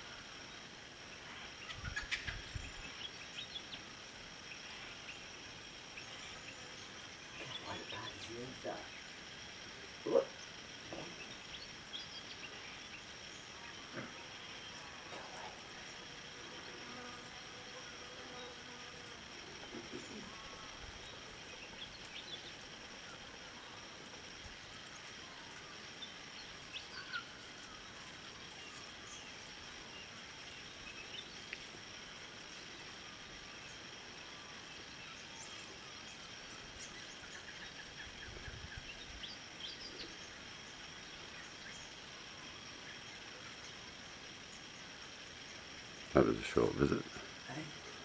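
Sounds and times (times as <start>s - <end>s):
faint bird chirps: 0.0s - 18.8s, 19.4s - 48.0s
steady hiss: 0.0s - 48.0s.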